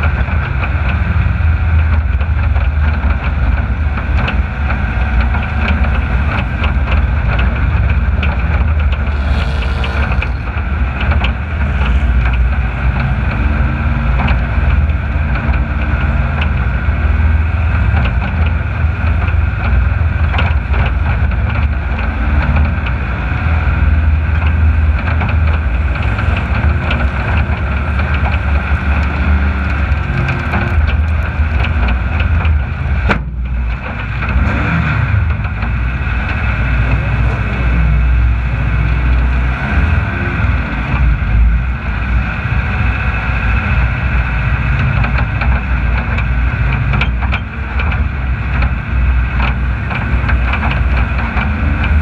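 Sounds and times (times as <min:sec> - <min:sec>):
racing vehicle deep rumble: 0:00.0 - 0:52.0
wind buffeting microphone: 0:00.0 - 0:52.0.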